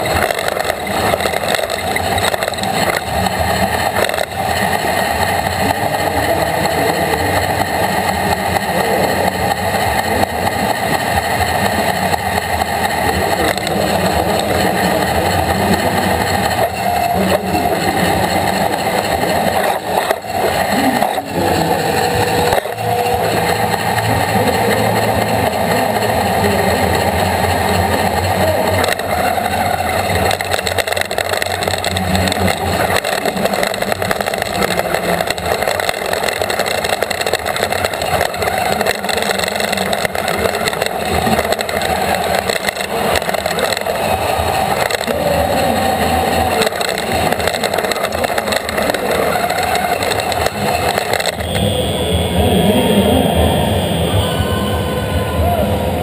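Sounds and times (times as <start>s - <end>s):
robot motors whirring: 0.0s - 54.8s
high steady tone: 0.0s - 56.0s.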